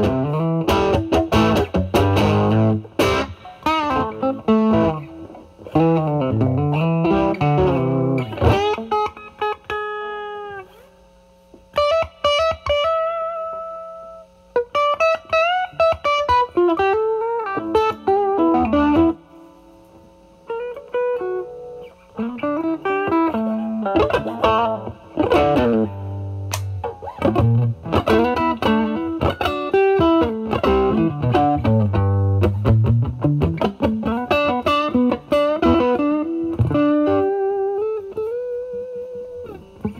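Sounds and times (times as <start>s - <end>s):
overdriven electric guitar lead: 0.0s - 10.9s, 11.7s - 19.3s, 20.5s - 39.9s.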